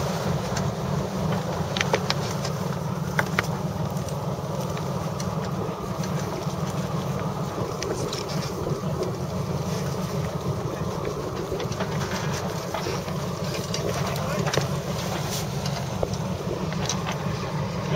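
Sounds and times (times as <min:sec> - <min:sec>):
low rumble of sailing yacht: 0:00.0 - 0:17.9.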